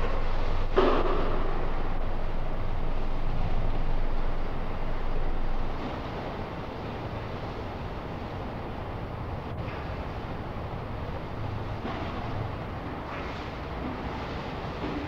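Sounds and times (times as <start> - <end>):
low hum: 0.0 - 15.0
tape hiss: 0.0 - 15.0.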